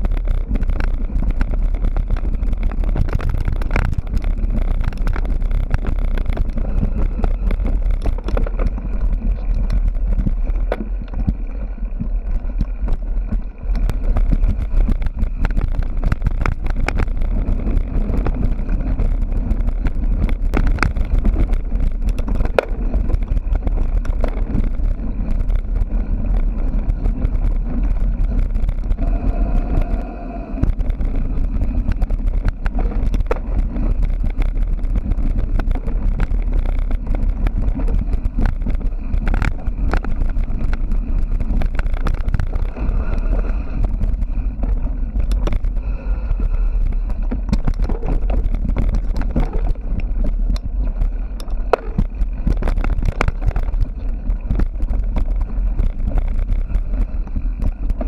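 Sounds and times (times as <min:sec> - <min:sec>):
bike and mount rattling: 0:00.0 - 0:58.0
wind rumble on microphone: 0:00.0 - 0:58.0.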